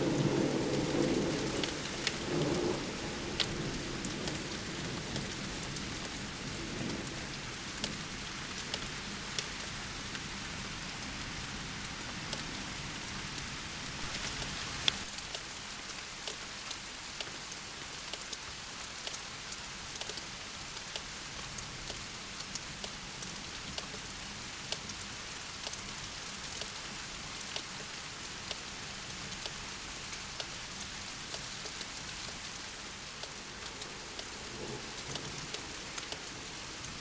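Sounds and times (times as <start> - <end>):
rain falling on a surface: 0.0 - 37.0.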